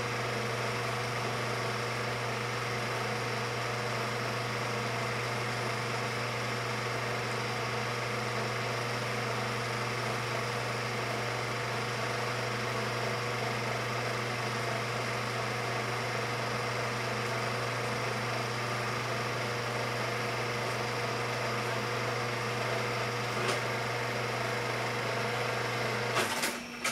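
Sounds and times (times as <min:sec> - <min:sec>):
film projector motor whirring: 0:00.0 - 0:26.9.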